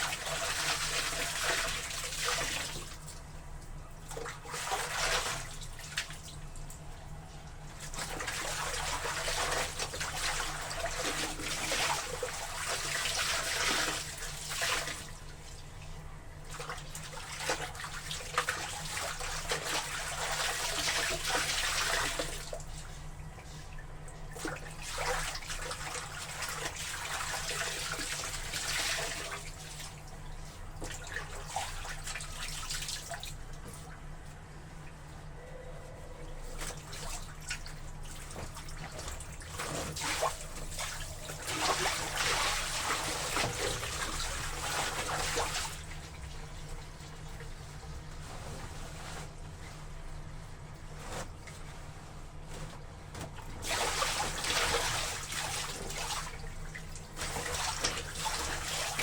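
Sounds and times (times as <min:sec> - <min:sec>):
water sloshing in a tub: 0:00.0 - 0:59.0.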